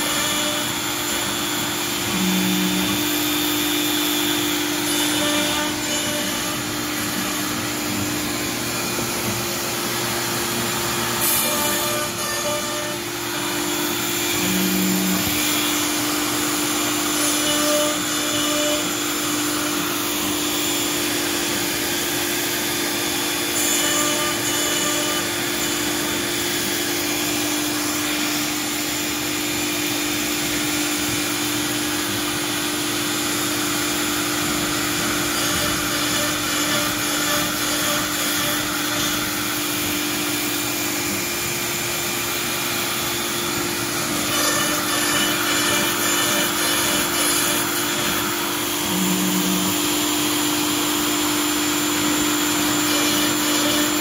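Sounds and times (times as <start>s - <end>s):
router spindle whine: 0.0s - 54.0s.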